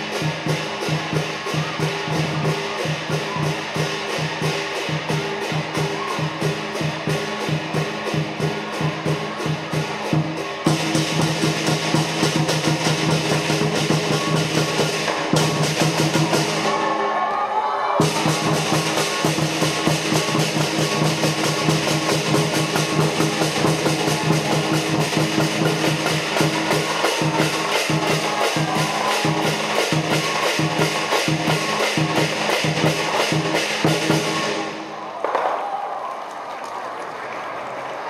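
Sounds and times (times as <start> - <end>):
big drum fast beat: 0.0 - 16.9, 18.0 - 35.0
clashing cymbals: 0.0 - 17.0, 18.0 - 35.0.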